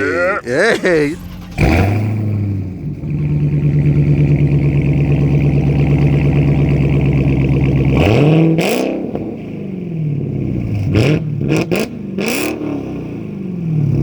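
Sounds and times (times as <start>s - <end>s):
loud car engine revving: 0.0s - 14.0s.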